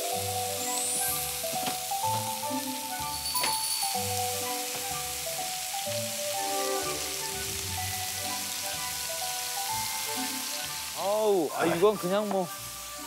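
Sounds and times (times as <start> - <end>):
background music of held notes: 0.0 - 13.0
meat sizzling on a grill pan: 0.0 - 13.0.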